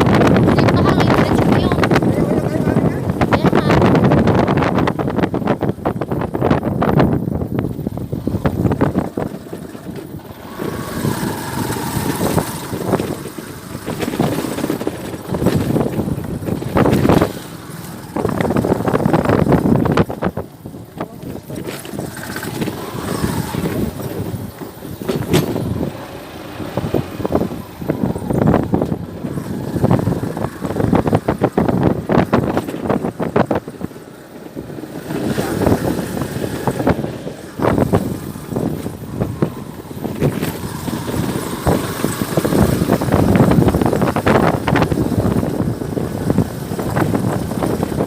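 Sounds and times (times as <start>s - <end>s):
cars and motorcycles passing: 0.0s - 48.0s.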